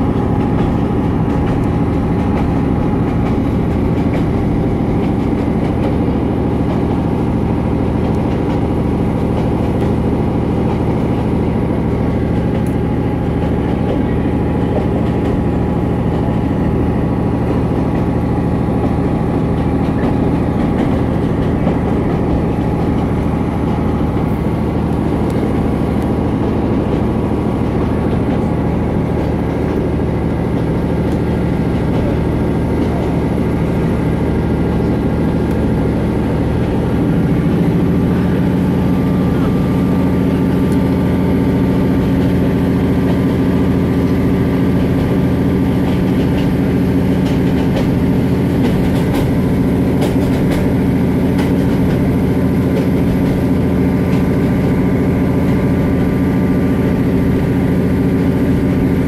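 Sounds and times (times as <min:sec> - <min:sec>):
diesel train engine drone: 0:00.0 - 0:59.0
wheels rumbling on rails: 0:00.0 - 0:59.0.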